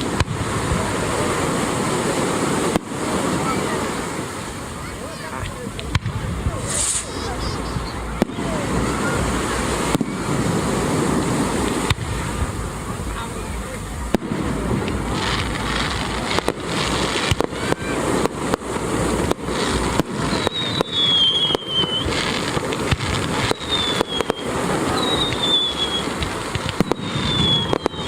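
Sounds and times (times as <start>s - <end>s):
fireworks whistles: 0.0s - 13.2s, 14.0s - 28.0s
fireworks bangs and crackle: 0.0s - 28.0s.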